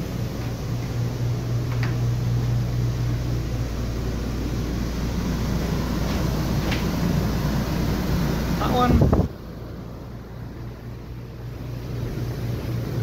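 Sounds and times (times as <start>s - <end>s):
air conditioner fans whooshing: 0.0s - 13.0s
low hum: 0.0s - 13.0s.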